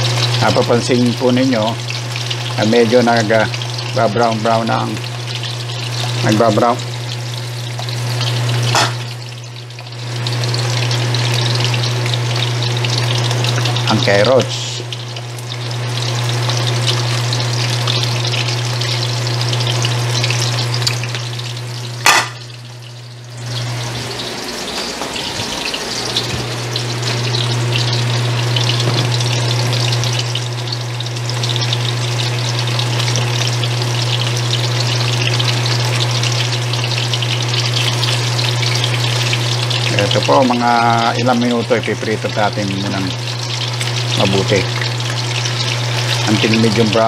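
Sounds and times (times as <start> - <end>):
vegetables sizzling in oil: 0.0 - 47.0.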